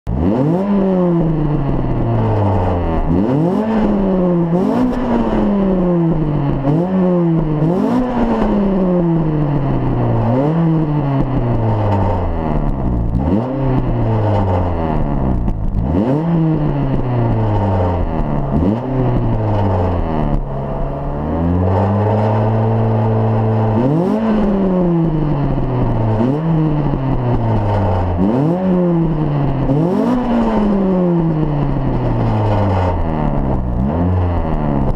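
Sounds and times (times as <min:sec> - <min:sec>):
engine exhaust revving: 0:00.1 - 0:34.9.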